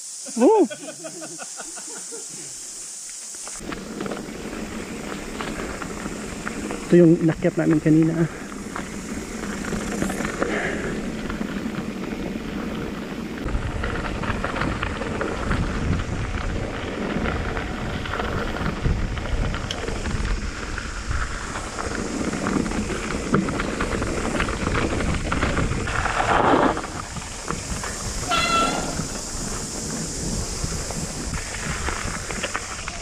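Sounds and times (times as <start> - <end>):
bike tyres crunching over gravel: 2.4 - 33.0
wind rumbling on microphone: 3.6 - 33.0.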